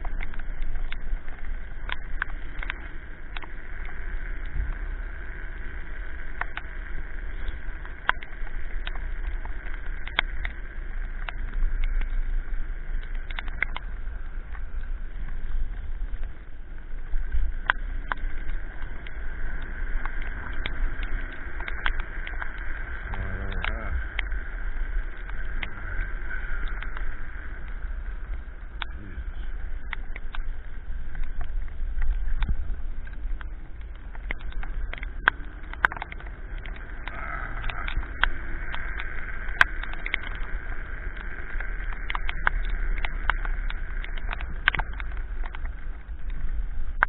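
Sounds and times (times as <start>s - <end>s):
raindrops ticking on camera: 0.0s - 47.0s
steady motor whine: 0.0s - 47.0s
wind and tyre rumble: 0.0s - 47.0s.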